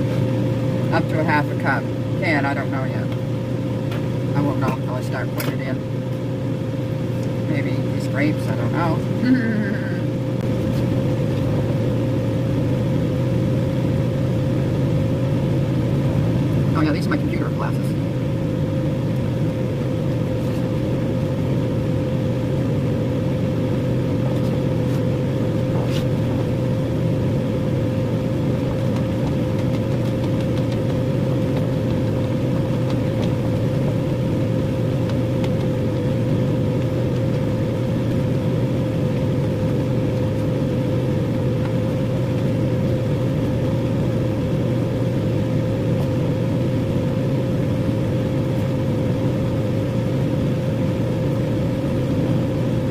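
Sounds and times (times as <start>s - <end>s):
steady machine hum: 0.0s - 52.9s.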